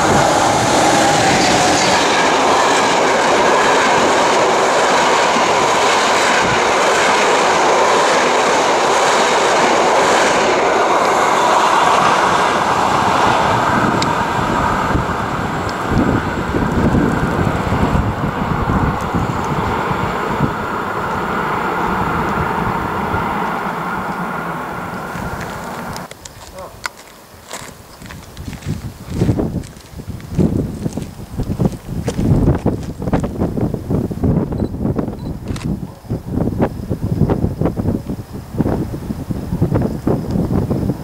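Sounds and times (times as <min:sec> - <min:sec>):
train wheels rolling on rails: 0:00.0 - 0:41.0.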